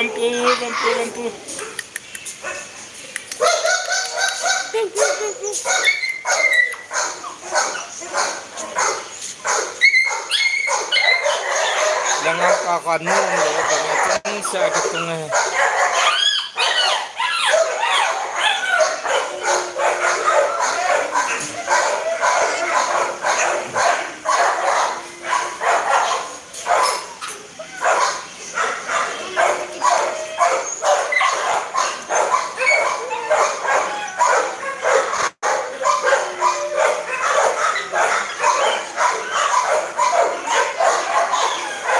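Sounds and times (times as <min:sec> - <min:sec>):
dogs barking and yipping: 0:00.0 - 0:41.9
high thin dog yelps: 0:03.4 - 0:14.2, 0:14.8 - 0:41.9.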